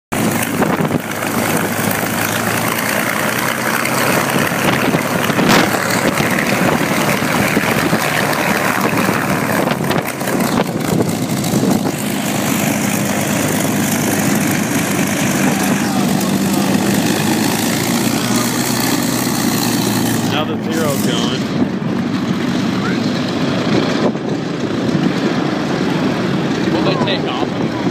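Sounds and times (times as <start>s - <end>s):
propeller plane engine idling: 0.1s - 27.9s.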